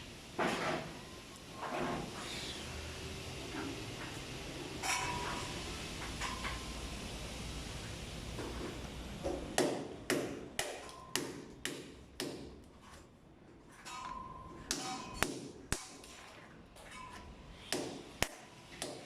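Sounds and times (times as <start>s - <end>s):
steady background hiss: 0.0s - 16.7s.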